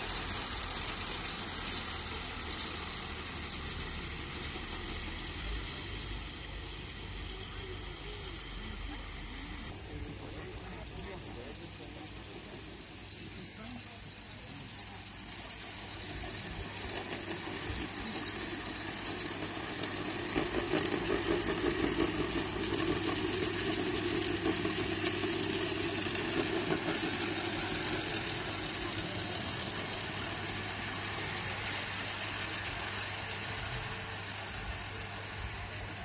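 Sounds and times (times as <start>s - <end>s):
model train mechanical hum: 0.0s - 36.0s.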